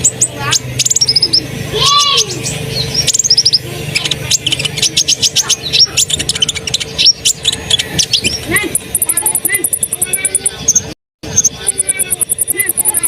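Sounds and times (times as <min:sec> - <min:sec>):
bird chirping and trilling: 0:00.0 - 0:13.0
low hum: 0:00.0 - 0:13.0.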